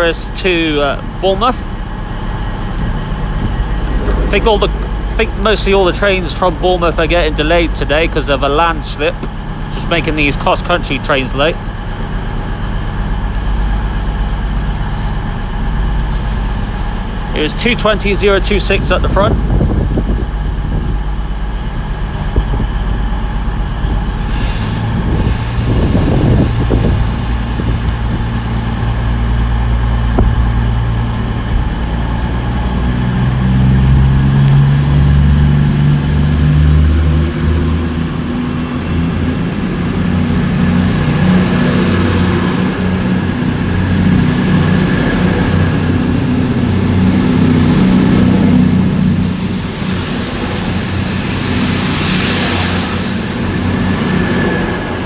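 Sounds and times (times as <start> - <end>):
diesel train engines pulling away: 0.0 - 55.0
high whine rising in pitch: 0.0 - 55.0.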